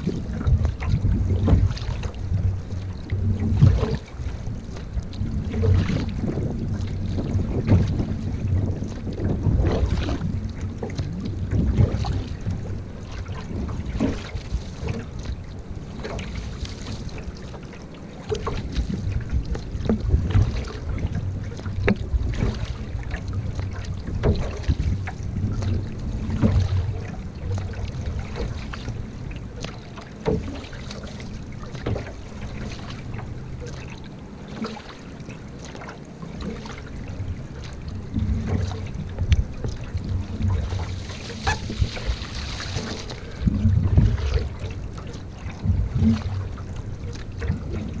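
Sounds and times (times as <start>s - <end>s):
paddle splashing in water: 0.0s - 48.0s
wind rumble on microphone: 0.0s - 48.0s.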